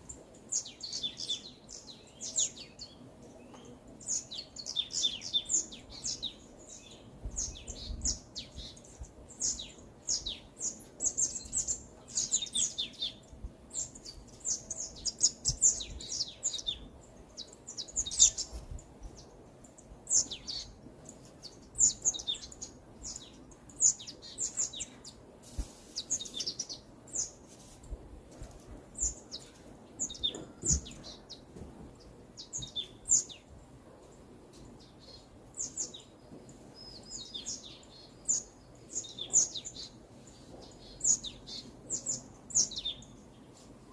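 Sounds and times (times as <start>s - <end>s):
birds chirping and singing: 0.0s - 25.2s, 28.5s - 33.6s, 34.7s - 43.7s.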